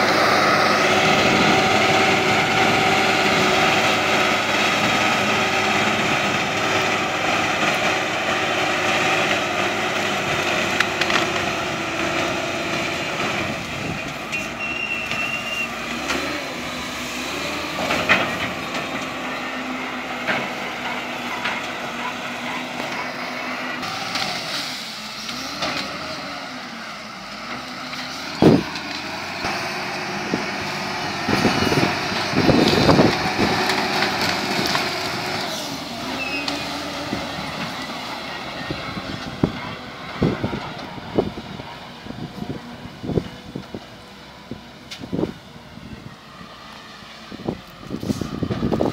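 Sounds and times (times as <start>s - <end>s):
diesel engine under load: 0.0s - 48.9s.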